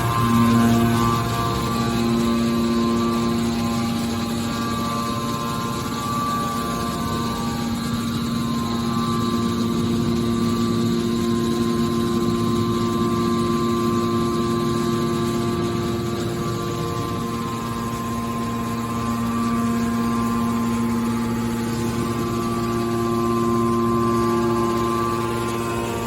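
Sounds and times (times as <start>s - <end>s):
baler motor humming: 0.0s - 26.0s.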